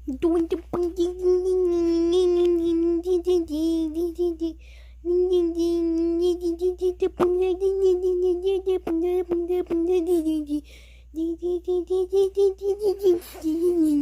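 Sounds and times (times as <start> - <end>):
child humming: 0.2 - 10.6, 11.2 - 14.0.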